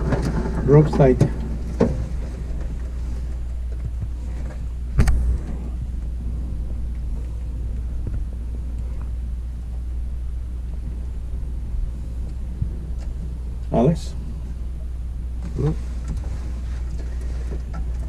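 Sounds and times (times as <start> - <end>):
low rumble in glider cockpit: 0.0 - 18.0.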